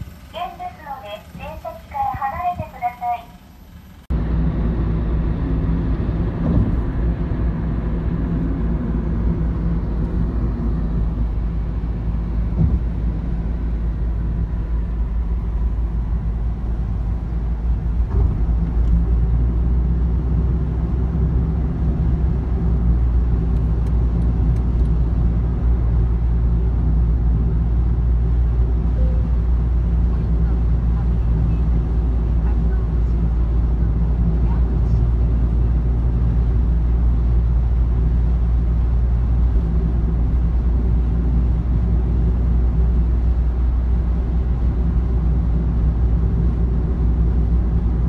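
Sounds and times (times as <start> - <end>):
car driving heard from cabin: 0.0 - 48.0.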